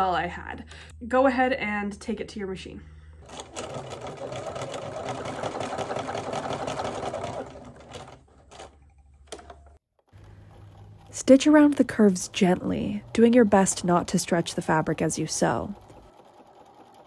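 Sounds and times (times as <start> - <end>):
sewing machine running: 3.2 - 17.0.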